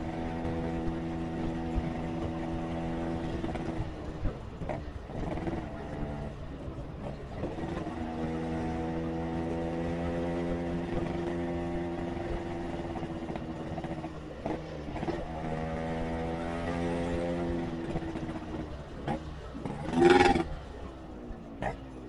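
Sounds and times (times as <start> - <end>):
motorcycle engine cruising: 0.0 - 22.0
road and wind noise: 0.0 - 22.0.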